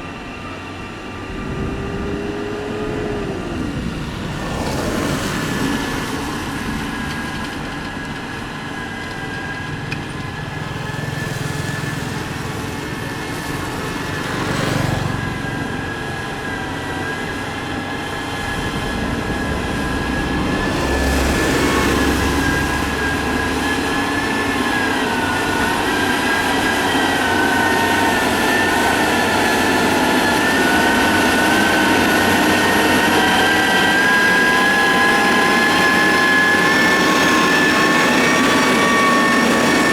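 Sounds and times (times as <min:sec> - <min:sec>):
diesel engine running: 0:00.0 - 0:39.9
high wavering whine: 0:00.0 - 0:39.9.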